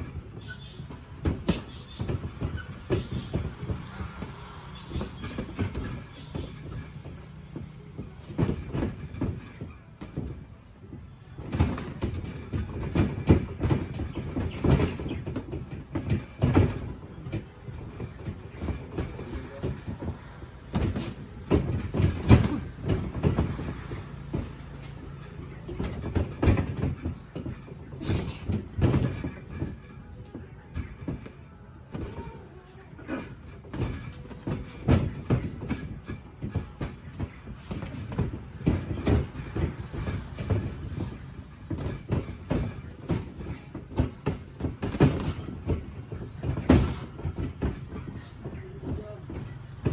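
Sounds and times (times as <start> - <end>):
boxing gloves thudding: 0.4 - 10.4, 11.3 - 29.9, 33.0 - 49.9.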